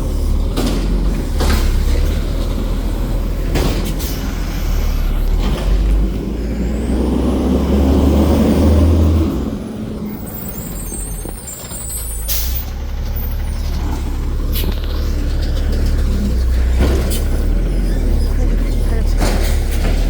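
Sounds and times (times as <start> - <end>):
garbage truck engine running: 0.0 - 20.0.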